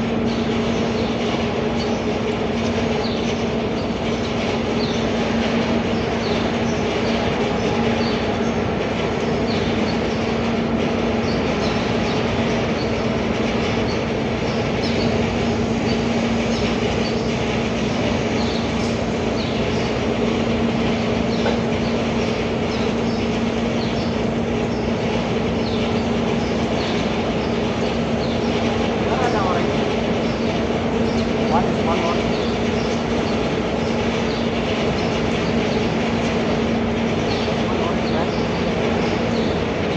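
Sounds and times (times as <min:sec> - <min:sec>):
machine running with low hum: 0:00.0 - 0:39.9.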